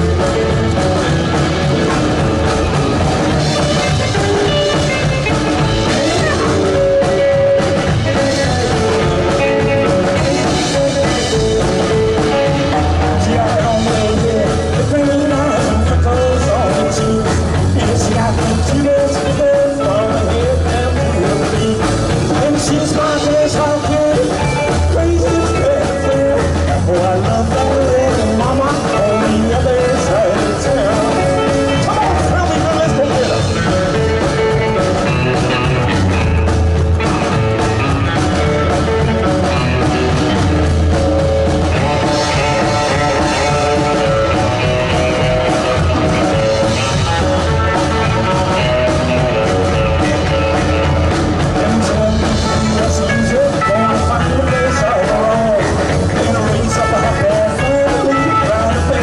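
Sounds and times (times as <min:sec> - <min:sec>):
person singing: 0:00.0 - 0:36.3, 0:37.0 - 0:59.0
bass line: 0:00.0 - 0:59.0
rock band playing live: 0:00.0 - 0:59.0.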